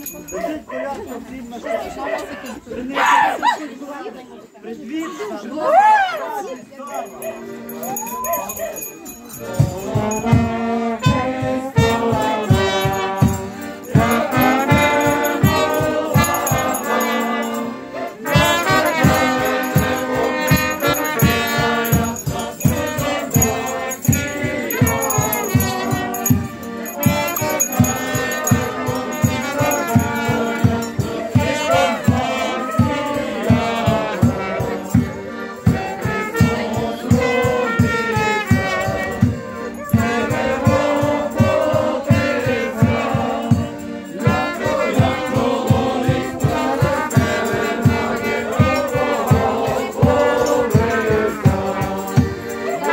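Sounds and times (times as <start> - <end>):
jingle bells shaking: 0.0 - 1.6, 6.8 - 52.9
group singing folk song: 6.9 - 52.9
drum beating: 9.4 - 17.6, 18.3 - 52.8.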